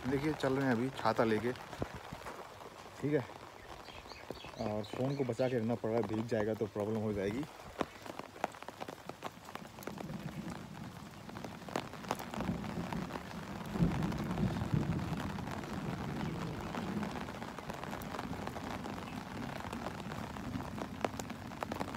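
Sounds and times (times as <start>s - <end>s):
rain on an umbrella: 0.0s - 21.9s.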